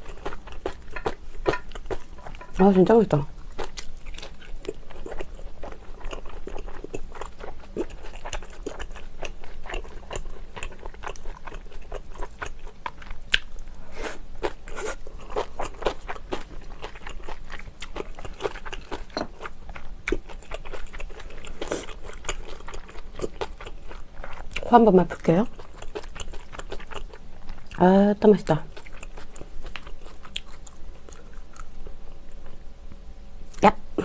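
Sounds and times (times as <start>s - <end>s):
chewing and crunching food: 0.0s - 32.6s.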